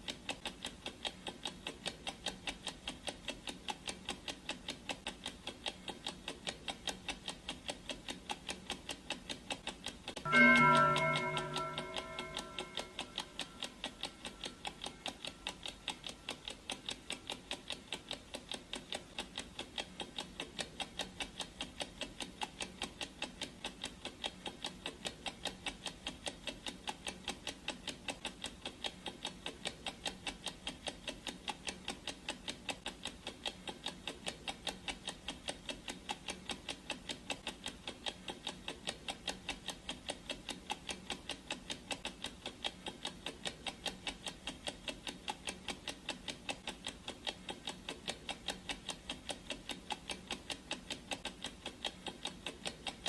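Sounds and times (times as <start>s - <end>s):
clock ticking fast: 0.0s - 53.0s.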